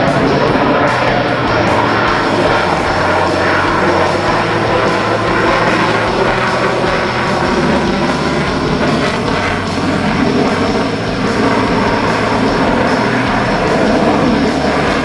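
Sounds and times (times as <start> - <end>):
jet aircraft engine noise: 0.0 - 15.0
rock music: 0.0 - 15.0.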